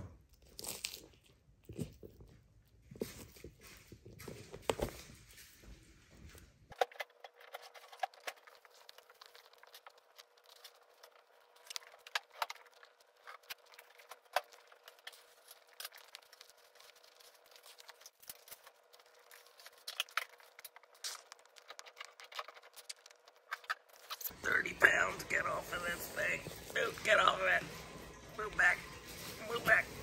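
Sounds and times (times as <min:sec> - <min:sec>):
tortoise biting and crunching food: 0:00.1 - 0:05.4, 0:06.7 - 0:30.0.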